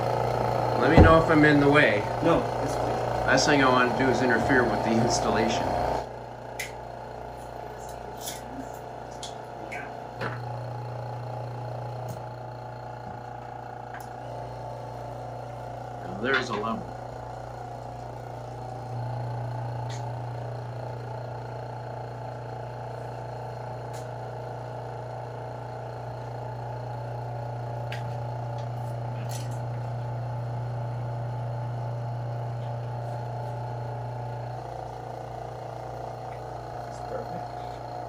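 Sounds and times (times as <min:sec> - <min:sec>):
pump motor humming: 0:00.0 - 0:38.0.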